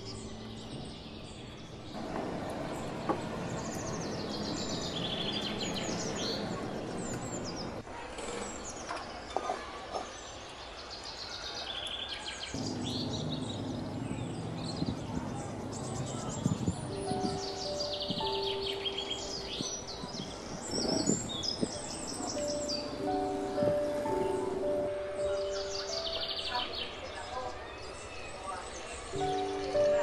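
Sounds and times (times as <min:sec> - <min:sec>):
small birds chirping: 0:00.0 - 0:07.8, 0:10.0 - 0:30.0
outdoor background hiss: 0:00.0 - 0:08.0, 0:12.5 - 0:30.0.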